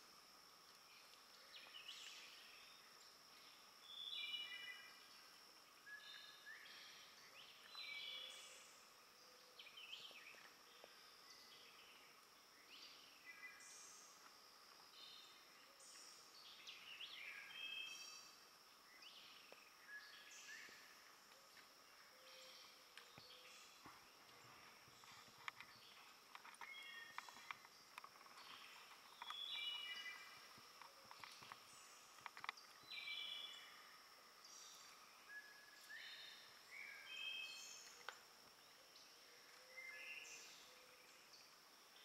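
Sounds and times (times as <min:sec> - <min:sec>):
faint birdsong: 0:00.0 - 0:42.0.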